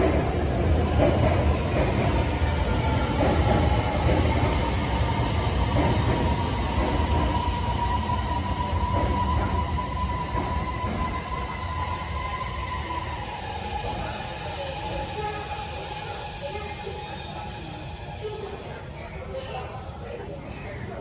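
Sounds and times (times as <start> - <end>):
subway train rumble: 0.0 - 21.0.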